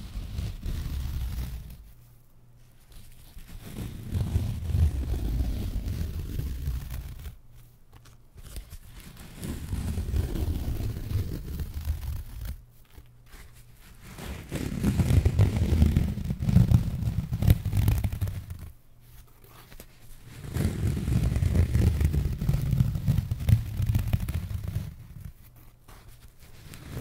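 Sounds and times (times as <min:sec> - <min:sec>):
muffled rubbing and rustling sheet: 0:00.0 - 0:27.0.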